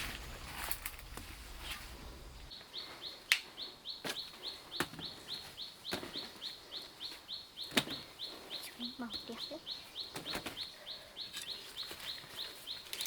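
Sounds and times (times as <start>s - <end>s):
bird chirping: 2.0s - 13.0s.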